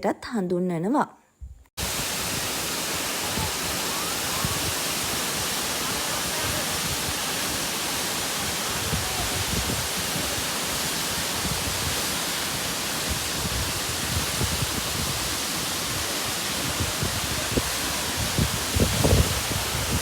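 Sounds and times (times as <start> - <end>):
waterfall roaring: 1.8 - 20.0.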